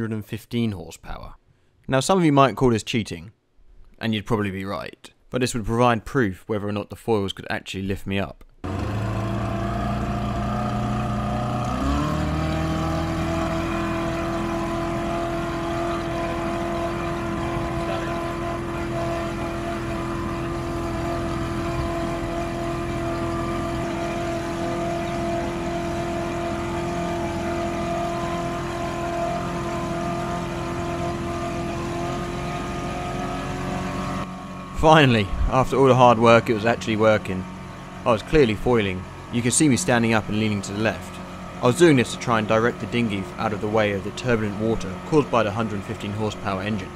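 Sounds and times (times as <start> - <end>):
outboard engine running at high revs: 8.6 - 46.9
wind: 8.6 - 46.9
water rushing in wake: 8.7 - 46.9.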